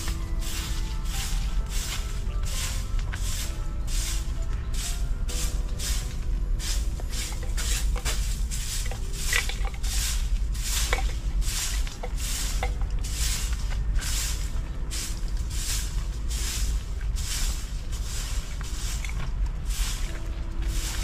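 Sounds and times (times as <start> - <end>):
broom sweeping dirt: 0.0 - 21.0
low rumble: 0.0 - 21.0.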